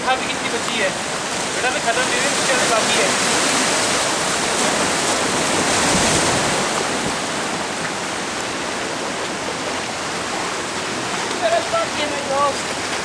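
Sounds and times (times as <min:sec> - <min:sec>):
ocean surf washing ashore: 0:00.0 - 0:13.0.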